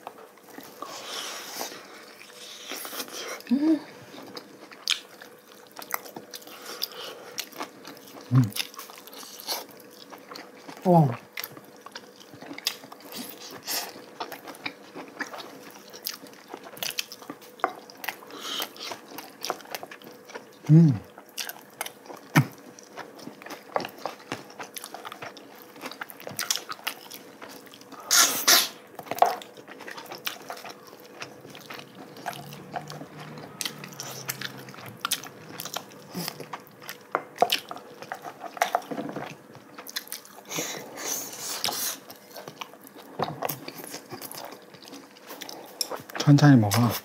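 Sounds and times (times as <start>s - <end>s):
chewing and lip smacks: 4.2s - 28.0s, 28.9s - 47.0s.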